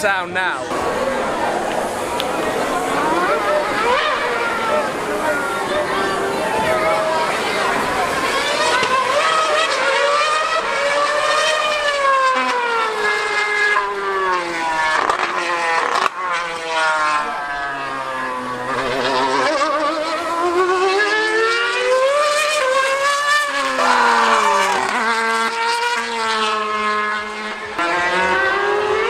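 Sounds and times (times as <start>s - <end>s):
race car engine screaming: 0.6s - 29.0s.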